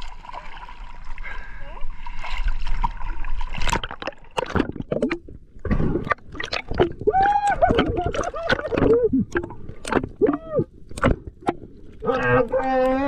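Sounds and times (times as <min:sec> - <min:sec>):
sea water sloshing and splashing: 0:00.0 - 0:13.0.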